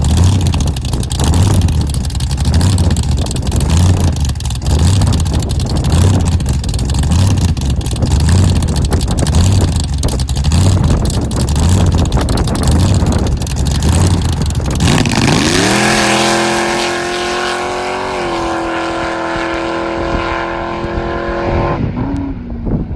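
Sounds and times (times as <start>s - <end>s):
dragster engine running rough: 0.0s - 20.3s
steady rising whine: 0.0s - 22.9s.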